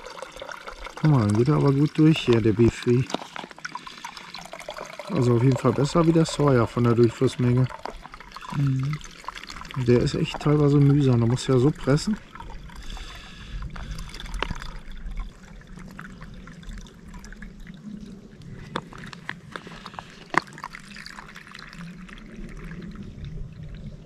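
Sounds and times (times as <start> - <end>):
sharp water drips: 0.0 - 23.9
water trickling through filter: 0.0 - 24.0.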